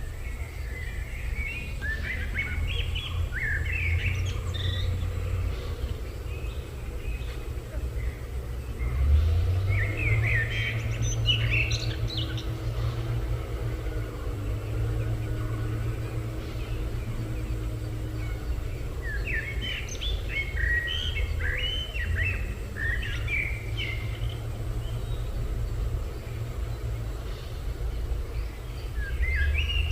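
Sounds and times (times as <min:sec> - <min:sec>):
low outdoor background rumble: 0:00.0 - 0:29.9
small bird chirping: 0:00.1 - 0:29.9.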